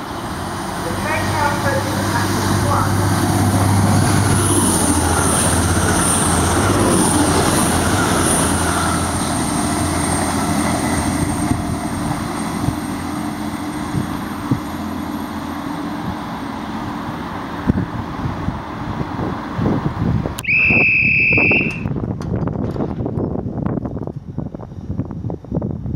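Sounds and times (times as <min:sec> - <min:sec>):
train passing at speed: 0:00.0 - 0:25.4.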